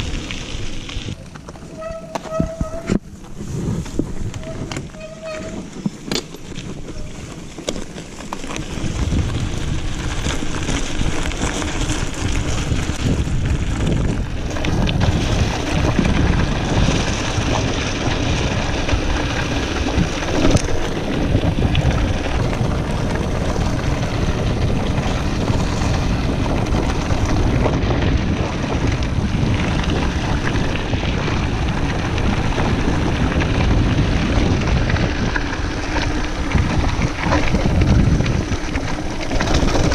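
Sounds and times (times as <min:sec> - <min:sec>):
wind buffeting microphone: 0:00.0 - 0:07.7, 0:08.4 - 0:39.9
bike tyres rumbling over gravel: 0:00.0 - 0:39.9.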